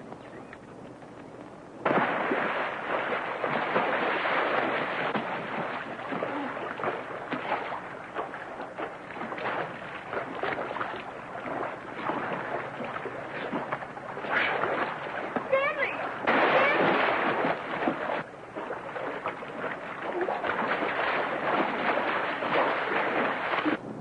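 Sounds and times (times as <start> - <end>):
water splashing and rushing: 1.8 - 23.8.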